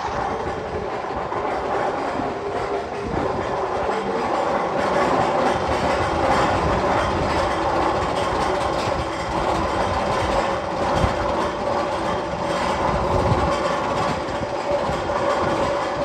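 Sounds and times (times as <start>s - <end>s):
roller coaster rolling on track: 0.0s - 16.0s.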